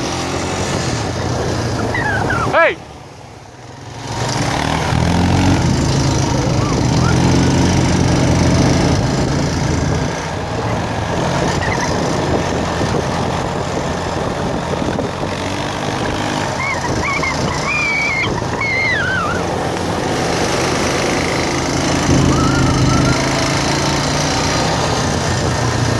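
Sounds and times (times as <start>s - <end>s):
atv engine running: 0.0s - 25.9s.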